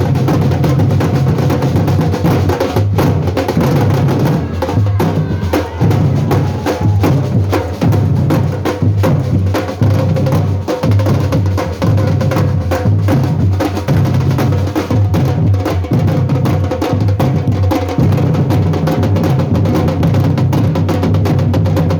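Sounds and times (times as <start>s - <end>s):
drums playing: 0.0s - 21.9s.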